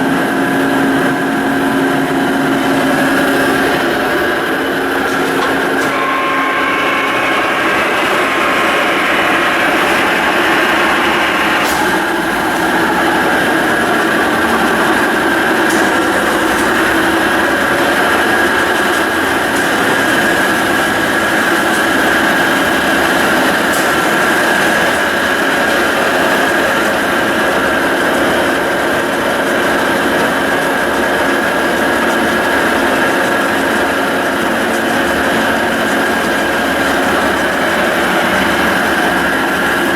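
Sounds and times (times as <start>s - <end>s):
drill press motor whine and hum: 0.0s - 39.9s.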